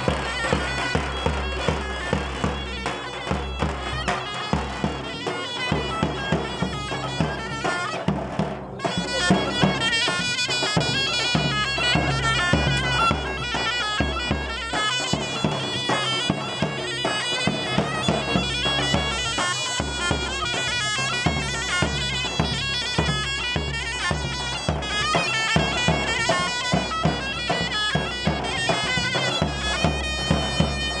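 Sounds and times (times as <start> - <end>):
reedy pipe melody: 0.0 - 31.0.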